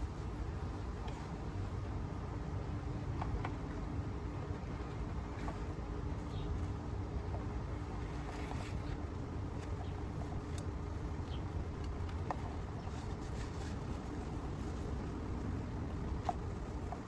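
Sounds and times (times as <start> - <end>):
low background rumble and hum: 0.0 - 17.0.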